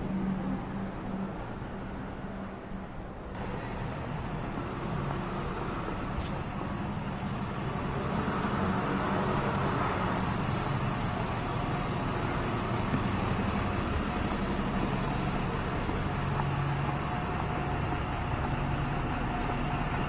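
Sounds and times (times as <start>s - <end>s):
bus engines running: 0.0s - 20.0s.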